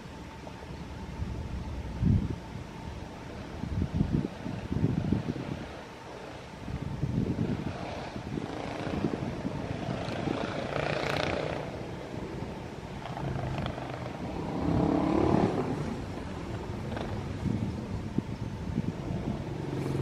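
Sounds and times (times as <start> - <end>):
engine rumbling: 0.0 - 20.0
low hum: 0.0 - 20.0.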